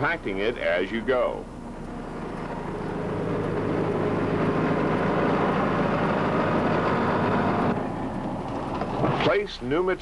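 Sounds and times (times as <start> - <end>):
diesel engine under load: 0.0 - 10.0.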